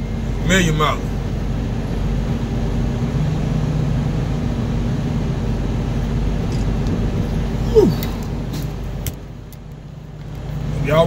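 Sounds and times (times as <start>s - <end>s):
diesel engine drone: 0.0s - 11.0s
road and cab noise: 0.0s - 11.0s.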